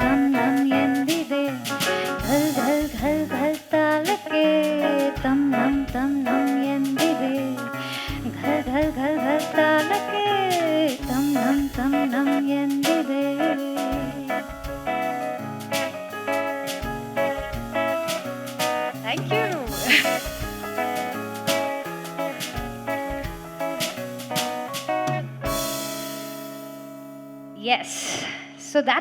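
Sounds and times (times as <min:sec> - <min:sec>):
band playing jazz: 0:00.0 - 0:27.0
sliding lead melody: 0:00.0 - 0:27.6.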